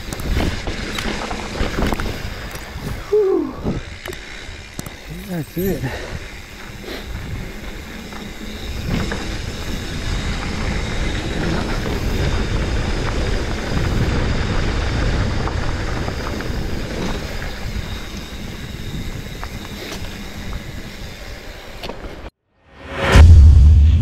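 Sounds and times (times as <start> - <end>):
wind rumbling on microphone: 0.0 - 22.2
bike clicks and rattles: 0.0 - 22.3
tyres on dirt and gravel: 0.0 - 22.3.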